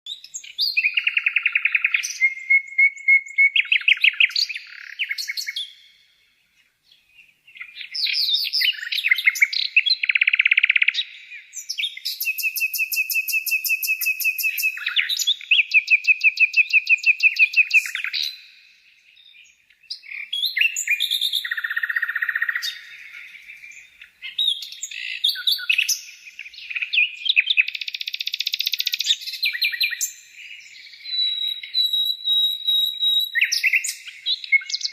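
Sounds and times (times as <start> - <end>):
bird singing trills and chirps: 0.1 - 34.9.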